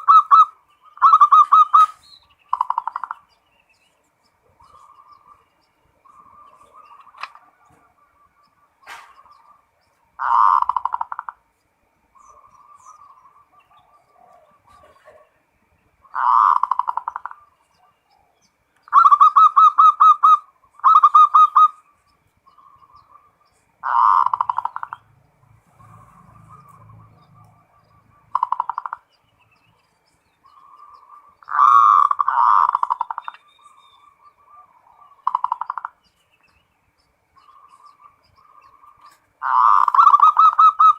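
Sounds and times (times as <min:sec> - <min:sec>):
dove cooing: 0:00.0 - 0:03.4, 0:04.4 - 0:11.5, 0:12.2 - 0:29.1, 0:30.4 - 0:36.0, 0:37.4 - 0:40.9.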